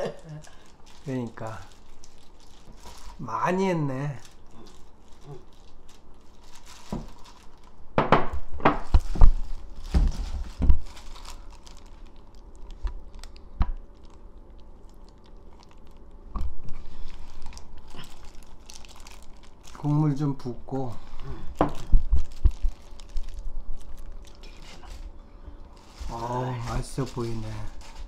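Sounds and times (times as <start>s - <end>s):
wet seaweed squishing: 0.0s - 7.7s, 9.0s - 28.0s
plastic glove crinkling: 0.0s - 8.0s, 8.8s - 28.0s.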